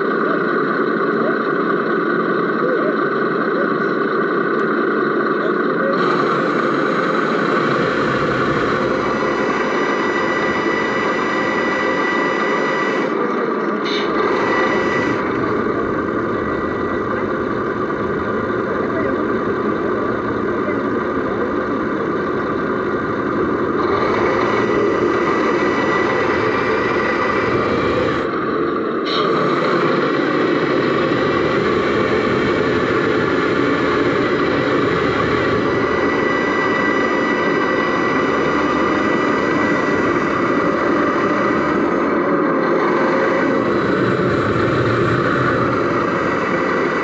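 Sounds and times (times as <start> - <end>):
diesel engine running: 0.0 - 47.0
steady high whine: 0.0 - 47.0.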